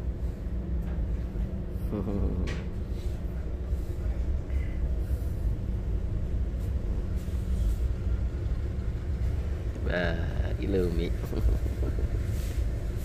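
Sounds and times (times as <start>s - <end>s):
vehicle interior rumble: 0.0s - 13.0s.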